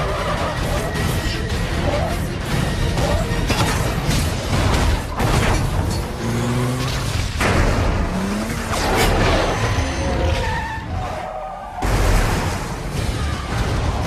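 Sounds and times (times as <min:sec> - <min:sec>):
tyres skidding: 0:00.0 - 0:12.6
car engines running hard: 0:00.0 - 0:14.0
film music score: 0:00.0 - 0:14.0.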